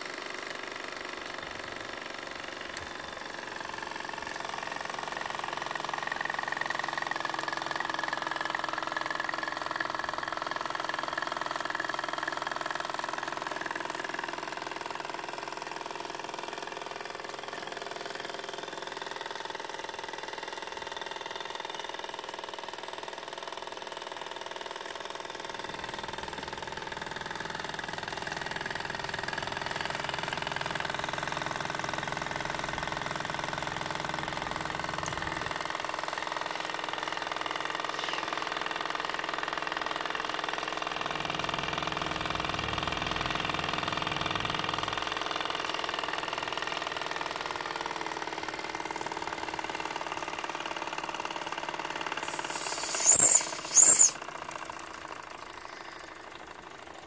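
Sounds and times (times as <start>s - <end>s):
toy steam engine running: 0.0s - 42.7s, 51.9s - 57.0s
light mechanical clatter: 0.0s - 57.0s.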